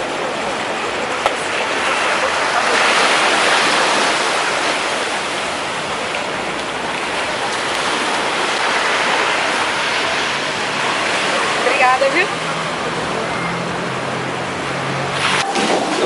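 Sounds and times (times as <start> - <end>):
sea surf washing onto beach: 0.0 - 16.0.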